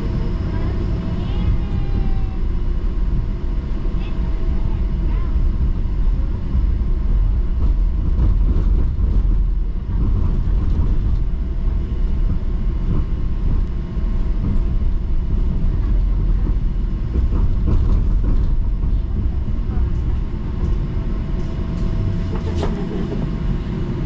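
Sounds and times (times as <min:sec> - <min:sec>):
streetcar rumbling on rails: 0:00.0 - 0:24.0.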